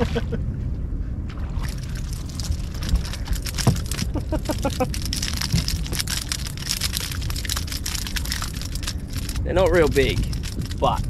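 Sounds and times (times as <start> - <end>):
wind buffeting microphone: 0.0 - 11.0
fish thrashing in water: 1.4 - 10.9.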